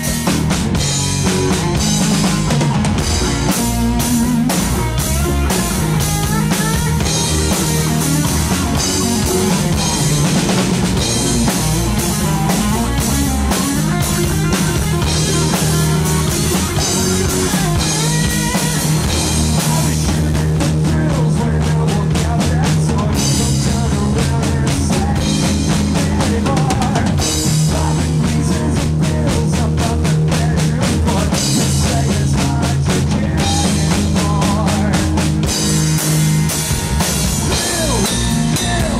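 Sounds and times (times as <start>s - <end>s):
bass guitar: 0.0s - 38.9s
drum kit beat: 0.0s - 38.9s
electric guitar: 0.0s - 38.9s.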